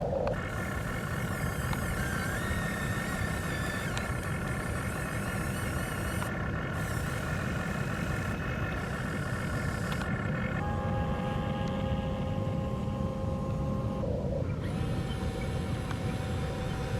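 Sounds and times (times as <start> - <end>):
backhoe engine rumbling: 0.0 - 16.9
engine whine: 0.0 - 16.9.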